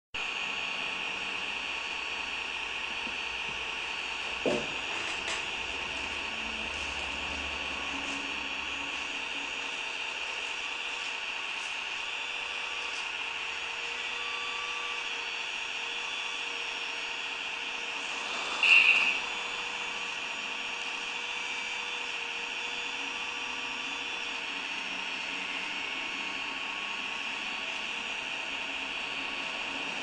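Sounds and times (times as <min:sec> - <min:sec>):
small electric motors whining: 0:00.2 - 0:30.0.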